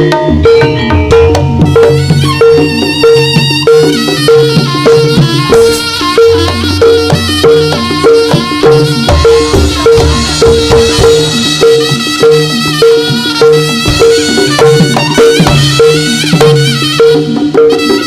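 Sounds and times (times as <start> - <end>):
drums: 0.0 - 18.0
mallet tuned percussion: 0.0 - 18.0.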